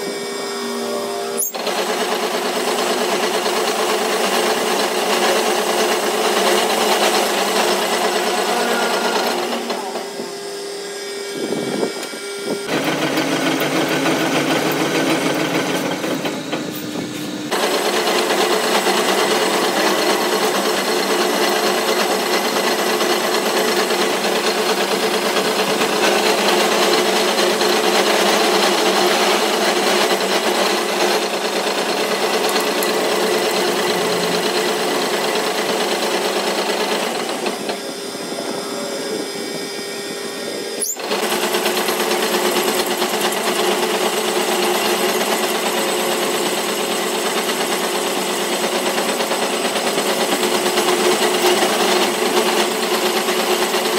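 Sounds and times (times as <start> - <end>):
metal lathe machining: 0.0 - 53.9.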